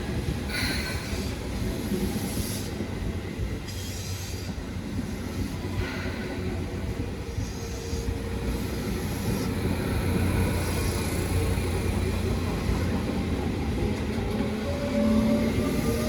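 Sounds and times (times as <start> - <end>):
electric train passing: 0.0 - 16.0.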